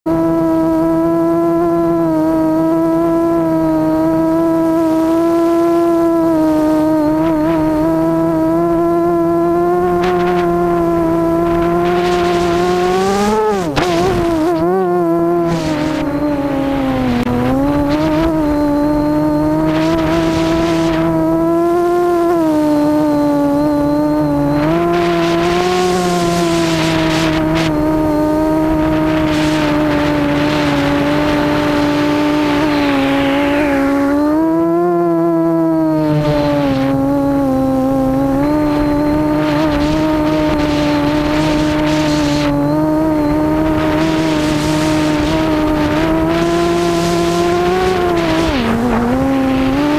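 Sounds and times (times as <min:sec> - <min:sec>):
drone motors whining: 0:00.1 - 0:49.9.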